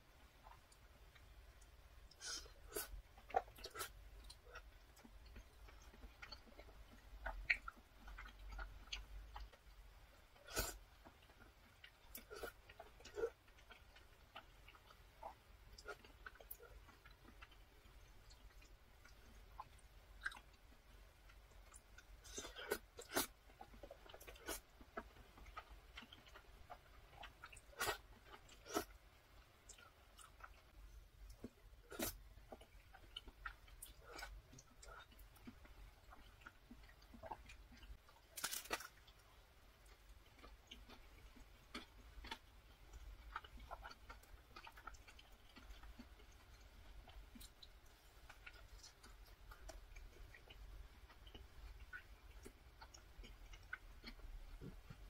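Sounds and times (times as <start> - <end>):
soft chewing: 0.0 - 55.0.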